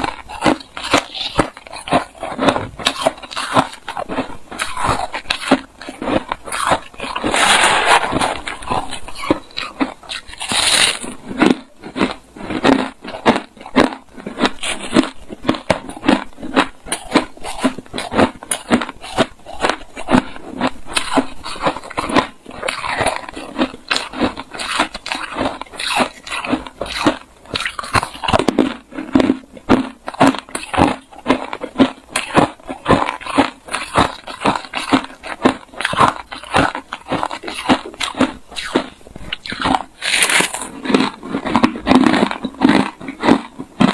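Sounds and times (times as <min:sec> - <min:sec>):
person chewing crushed ice: 0:00.0 - 0:43.9.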